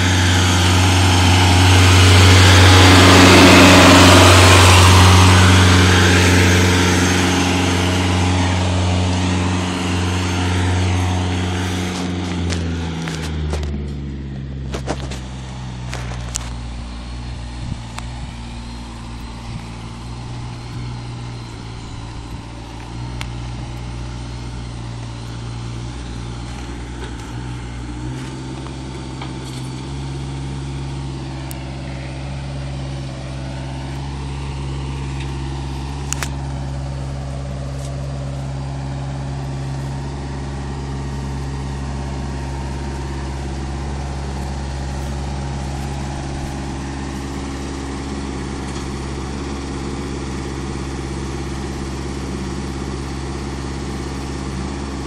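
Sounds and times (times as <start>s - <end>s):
diesel engines idling: 0.0s - 55.0s.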